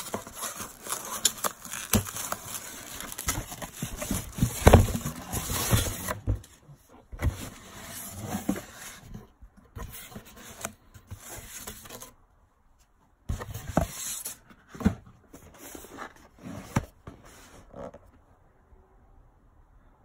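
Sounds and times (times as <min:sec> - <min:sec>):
cardboard box scraping and rustling: 0:00.0 - 0:12.1, 0:13.3 - 0:18.1.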